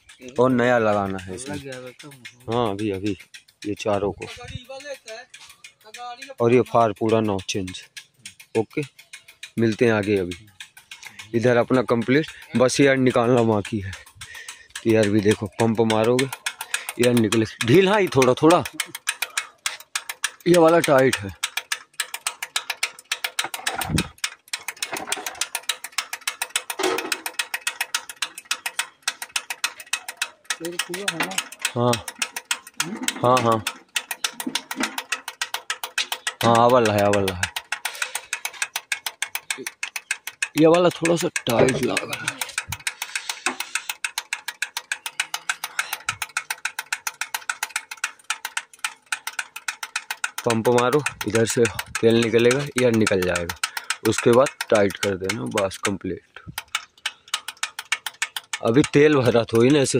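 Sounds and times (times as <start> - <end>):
ratchet wrench clicking rapidly: 0.0 - 59.9.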